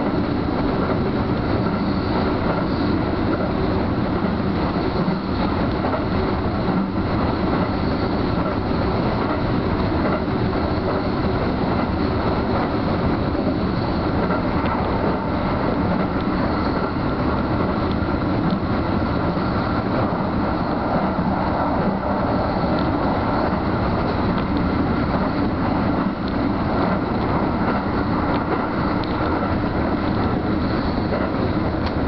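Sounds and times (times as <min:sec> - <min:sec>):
train rolling on rails: 0:00.0 - 0:32.0.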